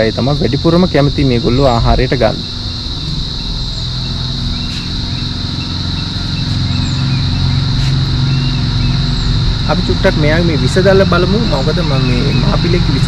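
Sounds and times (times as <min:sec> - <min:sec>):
insect drone: 0:00.0 - 0:13.0
low engine hum: 0:00.0 - 0:13.0
faint bird chirps: 0:01.2 - 0:13.0.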